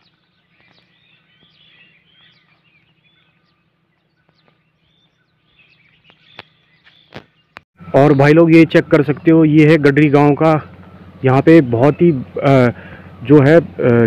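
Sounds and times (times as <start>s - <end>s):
birds chirping and whistling: 0.0s - 14.0s
low steady hum: 0.0s - 14.0s.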